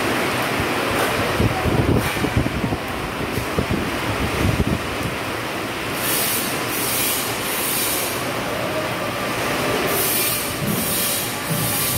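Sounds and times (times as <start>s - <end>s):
heavy rain splashing on pavement: 0.0s - 11.9s.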